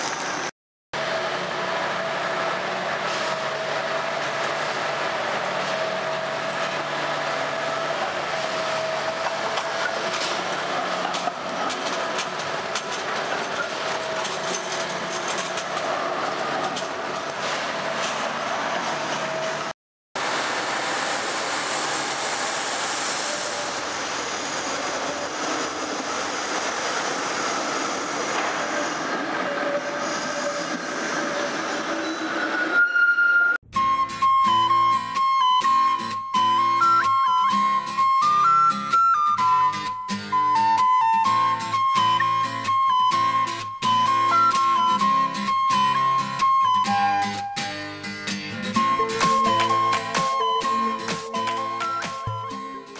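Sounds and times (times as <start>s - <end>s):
tram wheels squealing: 0.0s - 19.7s, 20.4s - 52.9s
tram wheels rumbling on rails: 0.0s - 34.0s, 40.4s - 52.9s.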